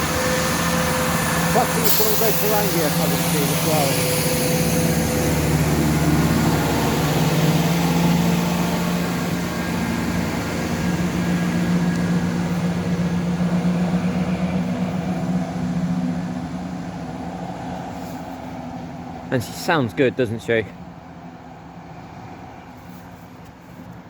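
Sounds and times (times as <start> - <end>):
diesel train engines humming: 0.0 - 24.0.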